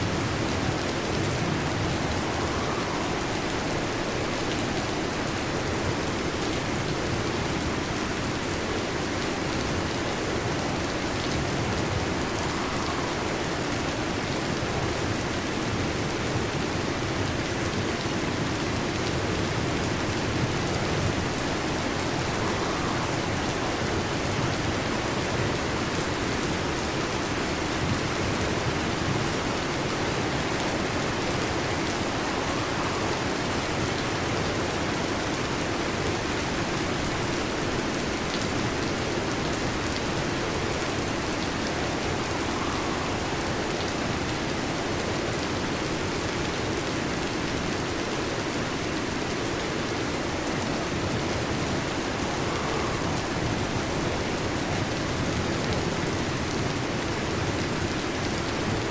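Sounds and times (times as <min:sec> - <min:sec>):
heavy rain on a metal roof: 0:00.0 - 0:58.9.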